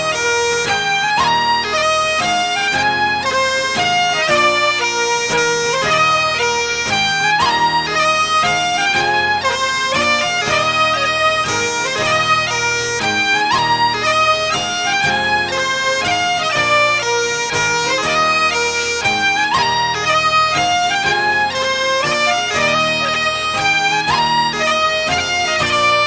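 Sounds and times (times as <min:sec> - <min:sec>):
bagpipes playing quick melody: 0:00.0 - 0:26.0.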